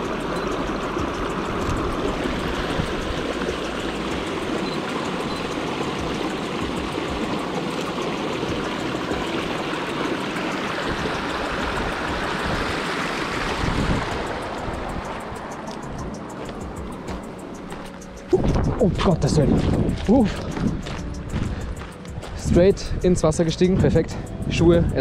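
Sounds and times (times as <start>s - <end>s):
river water rushing: 0.0s - 22.4s.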